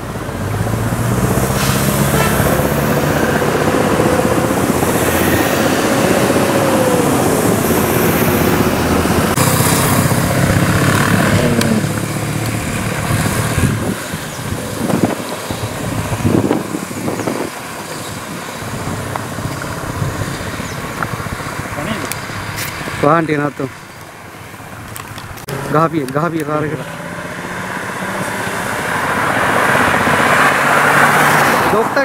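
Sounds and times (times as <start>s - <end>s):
motorcycle and traffic engines: 0.0s - 32.0s
vehicle engine drone passing: 0.0s - 32.0s.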